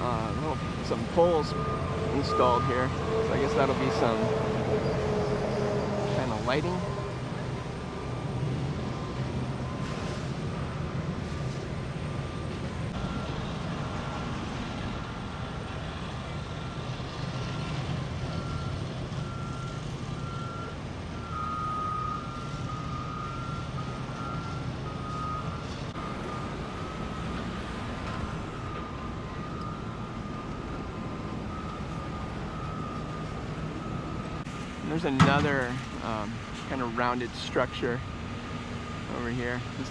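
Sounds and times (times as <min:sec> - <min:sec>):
reversing alarm beeping: 0:00.0 - 0:39.6
engine running: 0:00.0 - 0:39.9.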